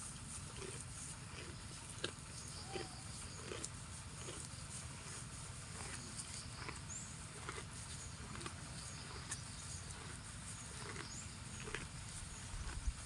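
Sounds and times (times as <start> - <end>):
cow chewing grass: 0.0 - 13.0
insects chirring: 0.4 - 13.0.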